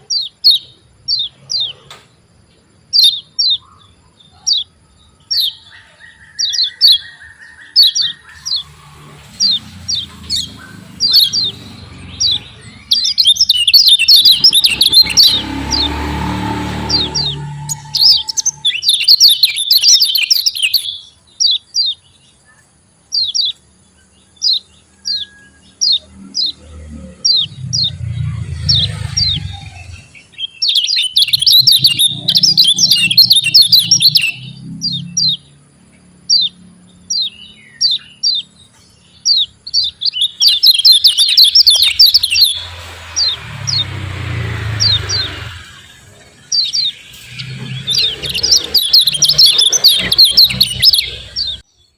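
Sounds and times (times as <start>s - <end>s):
bird chirping and chattering: 2.9s - 5.7s, 6.3s - 22.1s, 25.8s - 35.5s, 36.3s - 51.7s.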